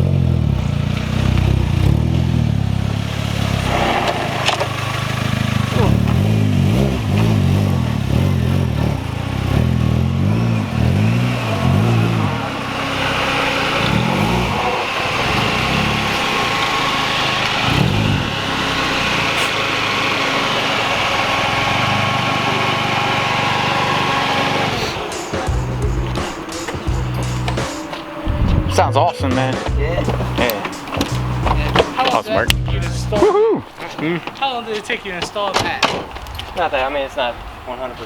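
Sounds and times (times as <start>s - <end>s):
car engine revving: 0.0s - 35.2s.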